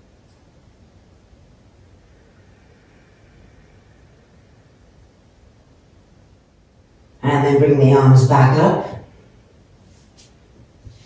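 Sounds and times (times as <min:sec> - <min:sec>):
faint room tone hiss: 0:00.0 - 0:11.0.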